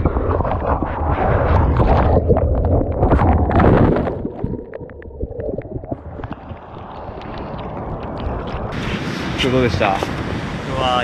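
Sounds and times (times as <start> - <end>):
wind buffeting microphone: 0.0 - 4.5, 5.5 - 11.0.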